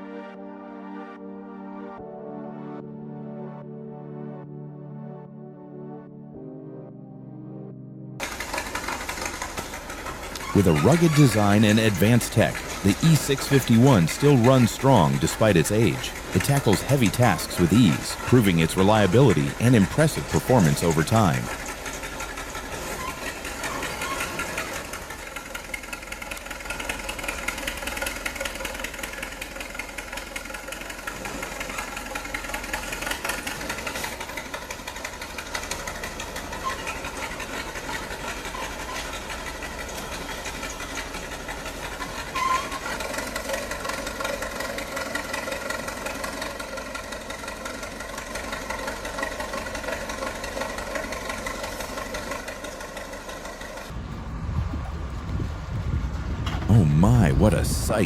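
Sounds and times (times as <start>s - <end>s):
heavy equipment engine running: 2.3s - 58.0s.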